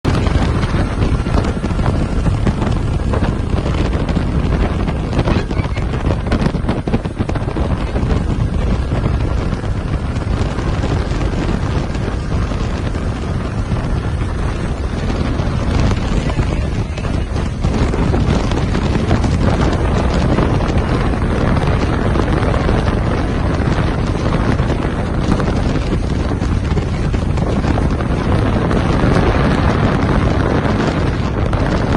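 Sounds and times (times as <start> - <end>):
boat motor: 0.0 - 31.9
hull on water: 0.0 - 31.9
wind buffeting microphone: 0.0 - 31.9.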